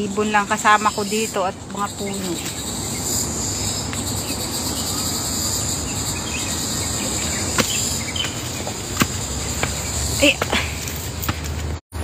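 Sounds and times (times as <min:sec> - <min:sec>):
low rumbling noise: 0:00.0 - 0:11.2
insects chorus: 0:00.0 - 0:11.3.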